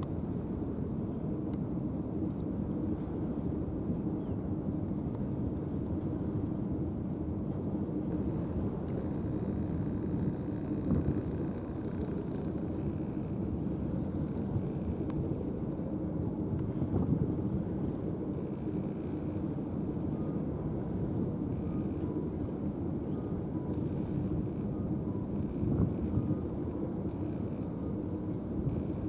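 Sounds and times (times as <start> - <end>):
ship engine low rumble: 0.0 - 29.0.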